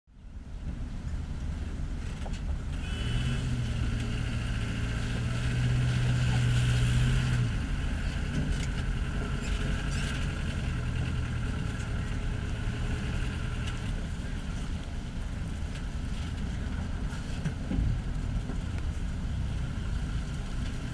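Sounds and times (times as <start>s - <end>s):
truck engine droning under load: 0.8s - 20.9s.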